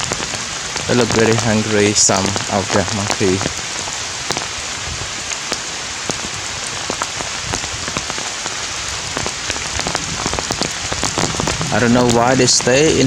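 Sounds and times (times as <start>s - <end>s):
raindrops ticking on surface: 0.0s - 13.0s
steady rain hiss: 0.0s - 13.0s.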